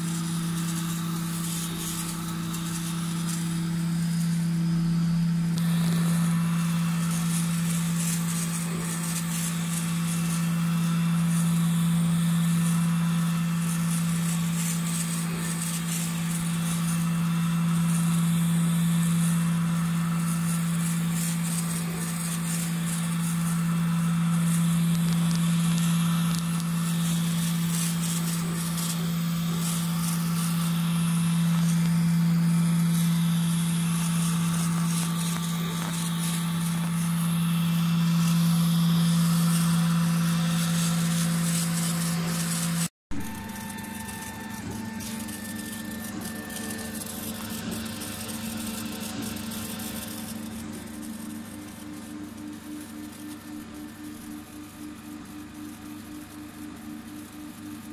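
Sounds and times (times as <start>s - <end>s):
laser engraver humming: 0.0s - 57.9s.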